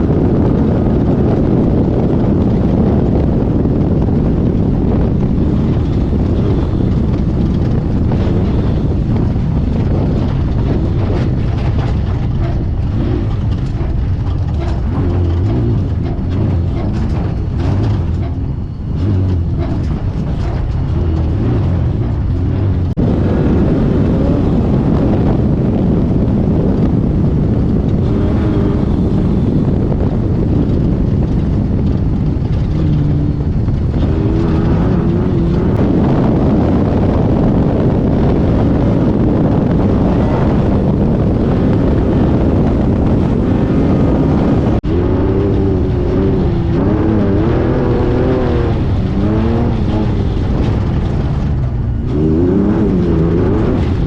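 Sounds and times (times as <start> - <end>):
race car engine running hard: 0.0 - 54.0
wind and chassis noise: 0.0 - 54.0.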